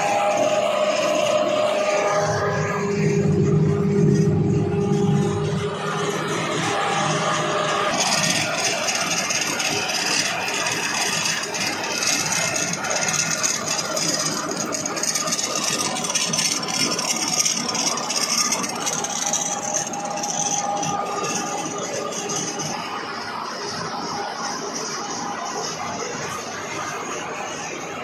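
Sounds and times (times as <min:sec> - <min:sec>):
machinery rattling and scraping: 0:00.0 - 0:28.0.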